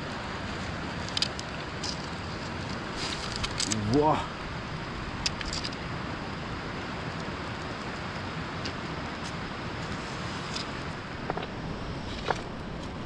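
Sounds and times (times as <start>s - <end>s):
campfire crackling: 0.0s - 13.0s
steady rushing noise: 0.0s - 13.0s.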